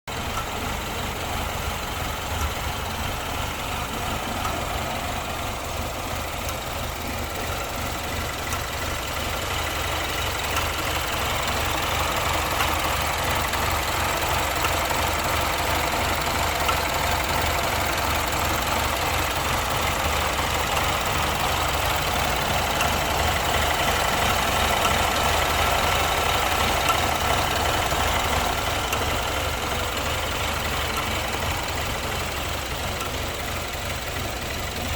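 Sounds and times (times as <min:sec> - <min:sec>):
car engine idling with misfire: 0:00.1 - 0:34.9.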